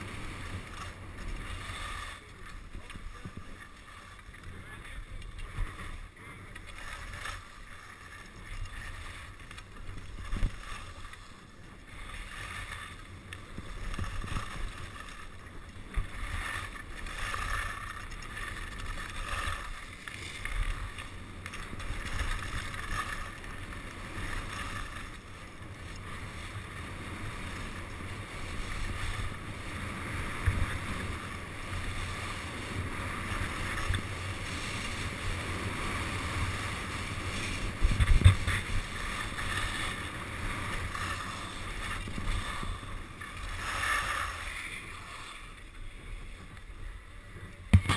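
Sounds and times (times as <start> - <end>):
skis scraping over snow: 0.0 - 47.9
wind rumble on microphone: 0.0 - 47.9.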